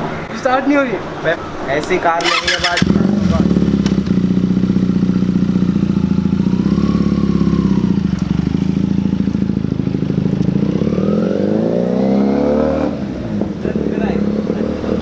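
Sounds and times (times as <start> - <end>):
vehicle engine revving: 2.2 - 15.0.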